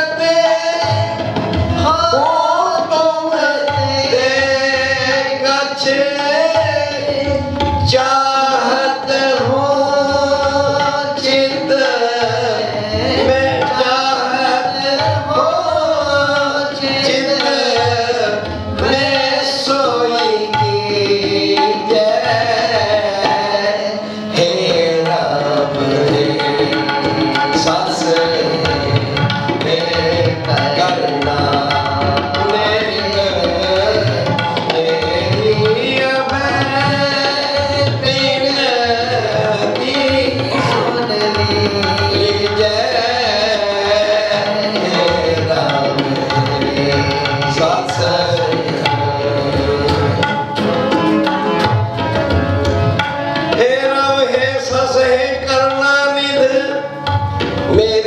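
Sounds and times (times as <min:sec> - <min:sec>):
harmoniums: 0:00.0 - 0:58.0
tabla beat: 0:00.0 - 0:58.0.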